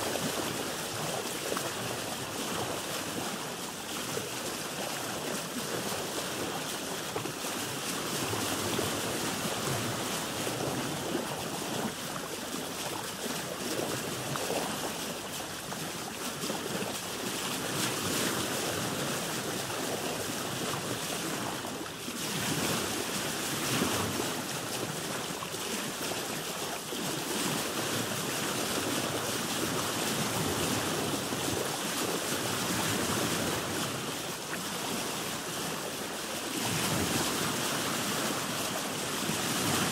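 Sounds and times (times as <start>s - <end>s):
sea waves lapping around boat: 0.0s - 39.9s
wind: 0.0s - 39.9s.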